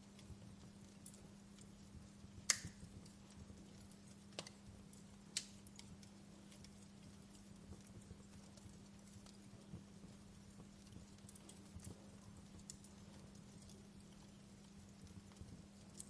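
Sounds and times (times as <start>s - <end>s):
steady low hum: 0.0s - 16.0s
wood fire crackling: 0.0s - 16.0s.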